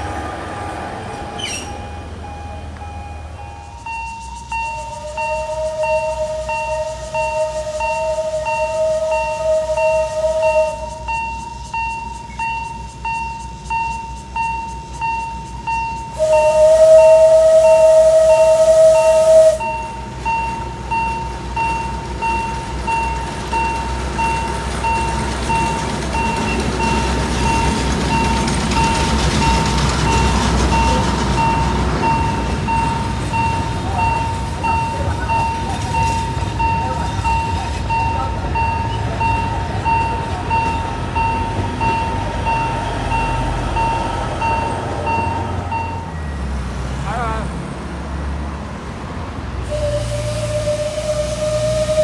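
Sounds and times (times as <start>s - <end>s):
locomotive whistle: 0.0s - 47.7s, 49.4s - 52.0s
level-crossing warning bell: 0.0s - 47.8s, 49.4s - 52.0s
train rumbling: 0.0s - 52.0s.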